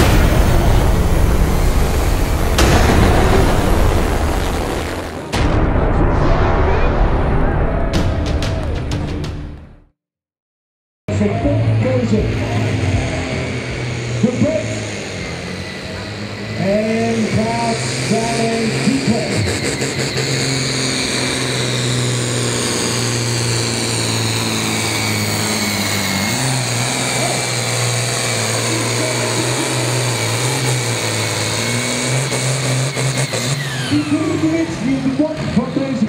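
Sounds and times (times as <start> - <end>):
tractor diesel engine under load: 0.0 - 5.3, 11.1 - 36.0.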